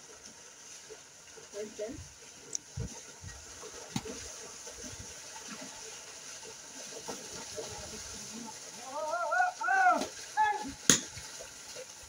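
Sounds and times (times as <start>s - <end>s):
water and mud sloshing: 1.5s - 12.0s.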